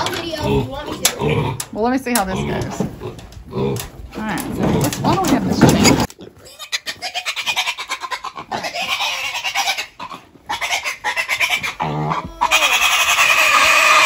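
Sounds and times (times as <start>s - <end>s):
piglets squealing and grunting: 0.0s - 14.0s.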